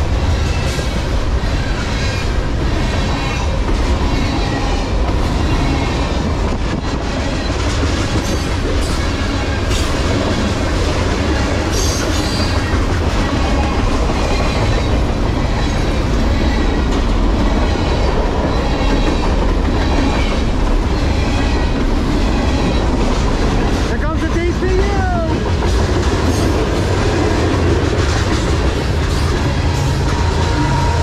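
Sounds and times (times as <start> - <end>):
freight train cars rumbling past: 0.0 - 31.0.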